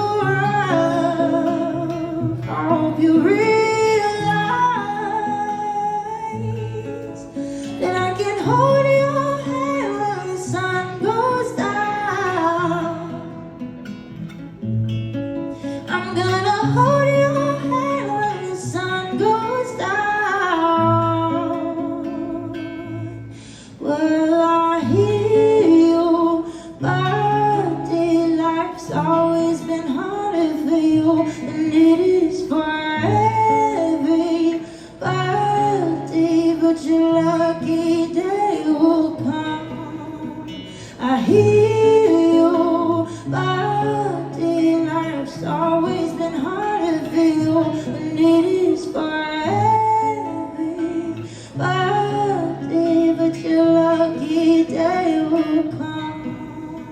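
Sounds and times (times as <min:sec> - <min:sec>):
guitar: 0:00.0 - 0:56.9
woman singing: 0:00.0 - 0:56.9.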